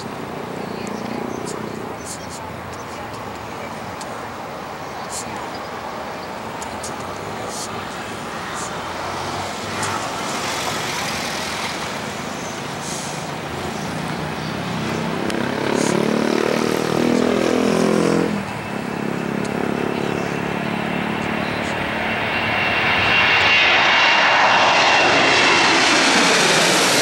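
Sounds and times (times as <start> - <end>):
jet engines at takeoff: 0.0 - 27.0.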